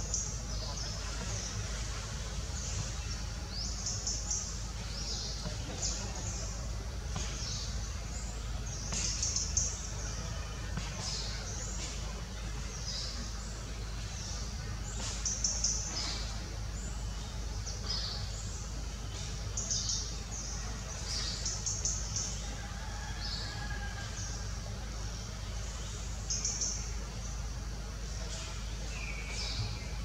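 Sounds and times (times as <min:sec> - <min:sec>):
low background hum: 0:00.0 - 0:30.0
small birds chirping: 0:00.0 - 0:30.0.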